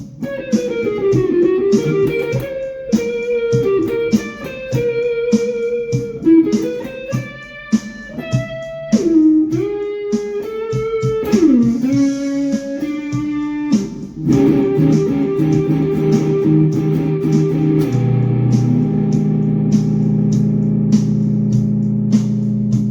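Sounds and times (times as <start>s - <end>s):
guitar melody with bending notes: 0.0s - 22.9s
ringing guitar chords: 0.0s - 22.9s.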